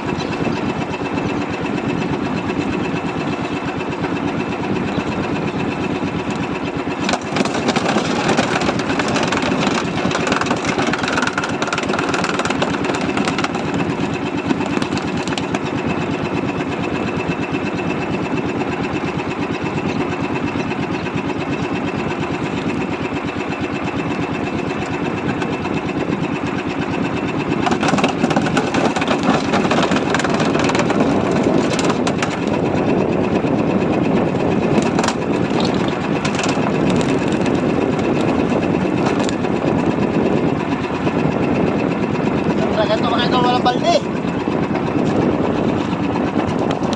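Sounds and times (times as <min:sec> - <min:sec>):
small boat engine rattling: 0:00.0 - 0:46.9.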